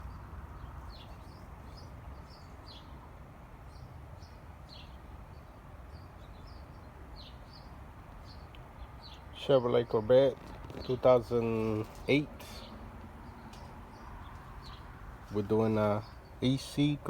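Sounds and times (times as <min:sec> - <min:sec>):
small birds chirping: 0:00.0 - 0:03.1, 0:03.7 - 0:17.0
faint low outdoor rumble: 0:00.0 - 0:17.0.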